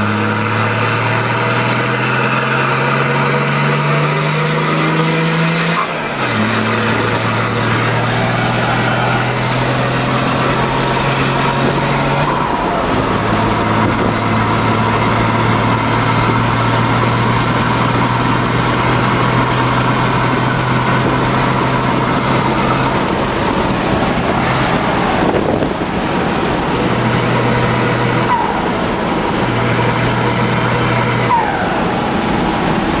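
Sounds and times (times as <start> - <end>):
pickup engine and exhaust rumbling: 0.0 - 33.0.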